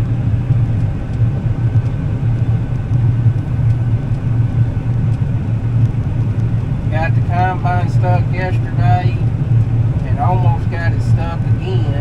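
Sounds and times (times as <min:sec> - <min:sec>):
combine harvester engine drone: 0:00.0 - 0:12.0
faint steady whine: 0:00.0 - 0:12.0.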